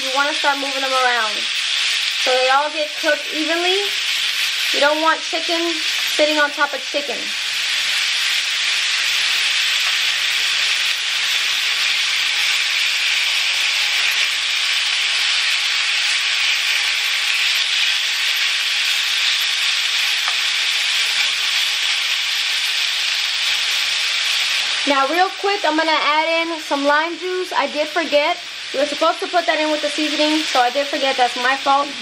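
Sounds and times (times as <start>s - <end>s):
chicken sizzling in a skillet: 0.0s - 32.0s.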